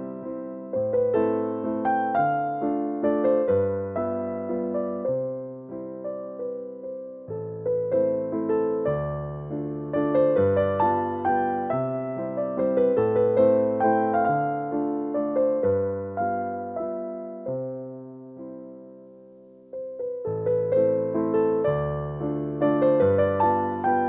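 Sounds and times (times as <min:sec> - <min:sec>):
slow keyboard melody: 0:00.0 - 0:24.0.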